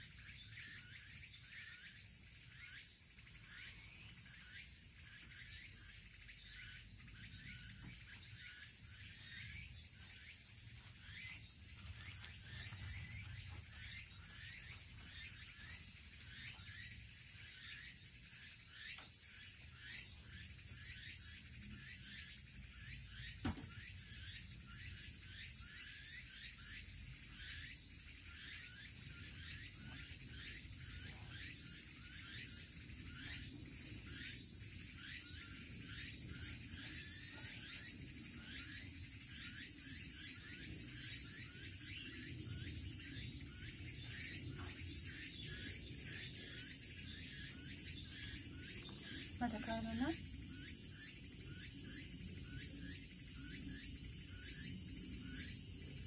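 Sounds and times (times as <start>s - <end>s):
insects buzzing and chirping: 0.0s - 56.0s.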